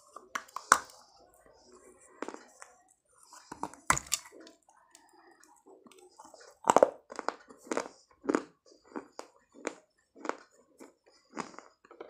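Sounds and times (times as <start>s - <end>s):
person chewing with gritty crunches: 0.0s - 12.0s.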